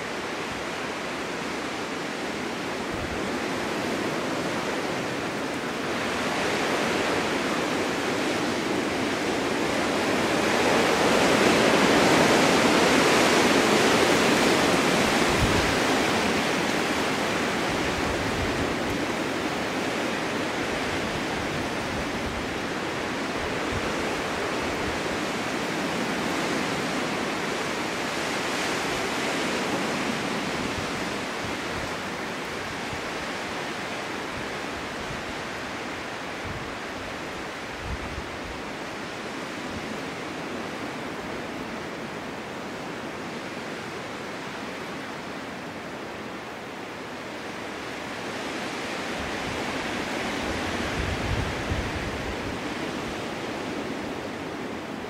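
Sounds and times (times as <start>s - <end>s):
gusting wind: 0.0s - 55.0s.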